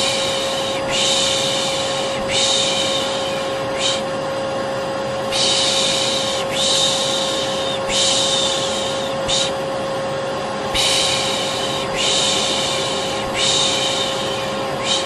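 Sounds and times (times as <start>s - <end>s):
person shushing: 0.0s - 4.1s, 5.4s - 9.6s, 10.7s - 15.0s
vacuum cleaner motor humming: 0.0s - 15.0s.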